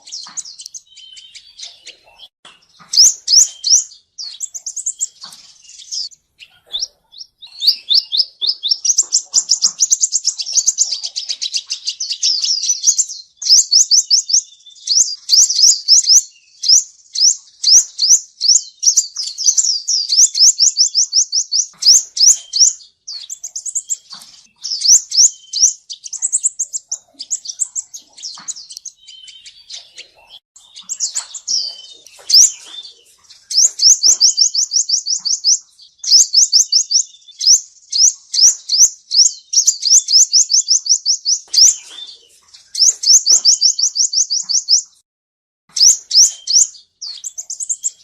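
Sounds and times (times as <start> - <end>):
sunbird singing: 0.0 - 45.0, 45.7 - 48.0.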